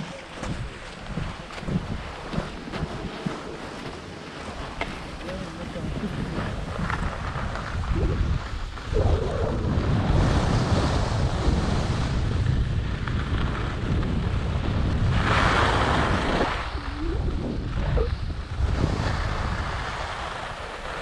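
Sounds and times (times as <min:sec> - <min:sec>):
wind buffeting microphone: 0:00.0 - 0:21.0
skis hissing over snow: 0:00.1 - 0:08.9, 0:09.6 - 0:16.9, 0:17.6 - 0:21.0.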